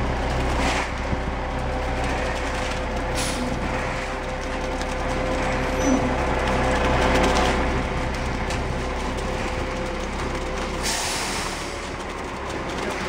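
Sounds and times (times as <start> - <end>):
truck engine running: 0.0 - 13.0
wet concrete sliding down chute: 0.0 - 13.0.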